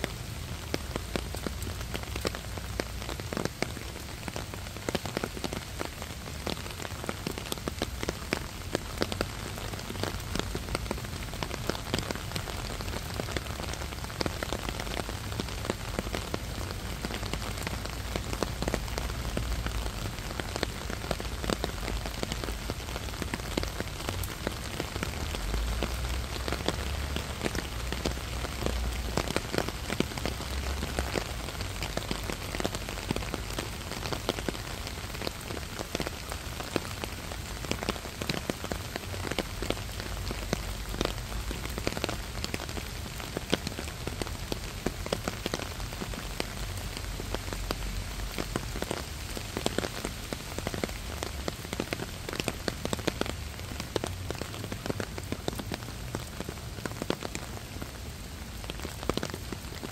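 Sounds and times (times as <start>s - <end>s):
rain falling on plants: 0.0s - 59.9s.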